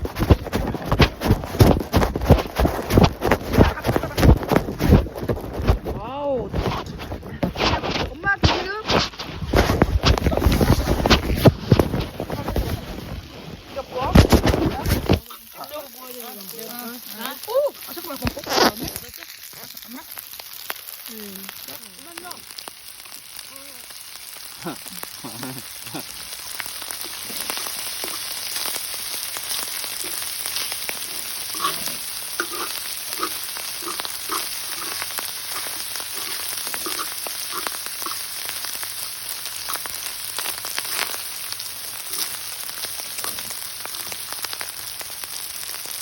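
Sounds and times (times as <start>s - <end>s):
food sizzling in oil: 0.0s - 46.0s.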